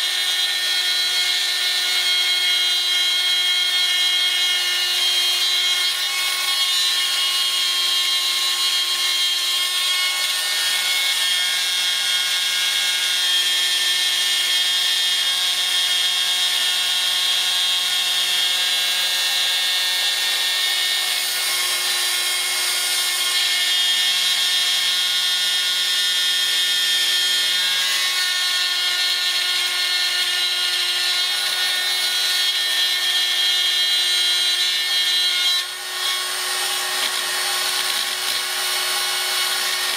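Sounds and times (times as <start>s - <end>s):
rotary drill high-pitched whine: 0.0s - 39.9s.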